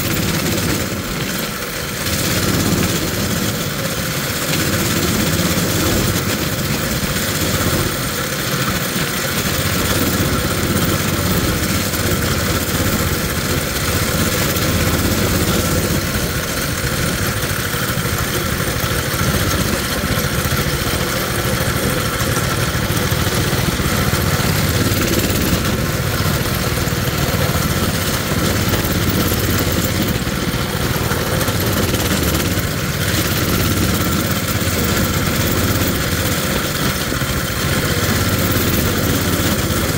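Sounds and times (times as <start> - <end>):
small engine running: 0.0 - 39.9
steady rushing noise: 0.0 - 39.9.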